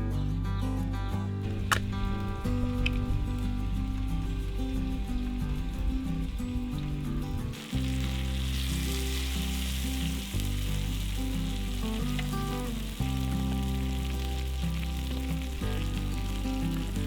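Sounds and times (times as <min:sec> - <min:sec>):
background music of held notes: 0:00.0 - 0:17.0
meat sizzling: 0:01.4 - 0:17.0.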